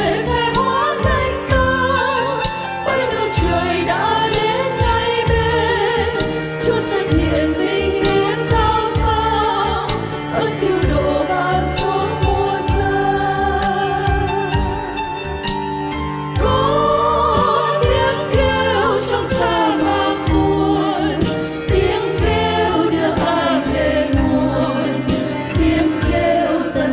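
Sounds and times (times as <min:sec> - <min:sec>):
choir singing a hymn: 0:00.0 - 0:14.9, 0:16.4 - 0:26.9
instrumental accompaniment with beat: 0:00.0 - 0:26.9.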